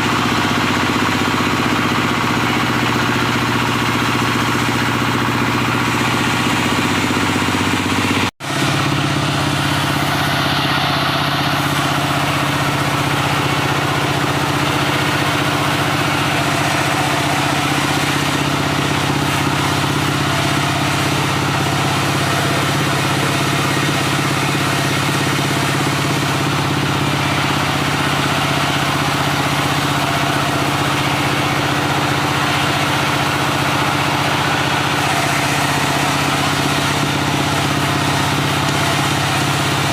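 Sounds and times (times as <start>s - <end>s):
diesel engine driving saw: 0.0s - 39.9s.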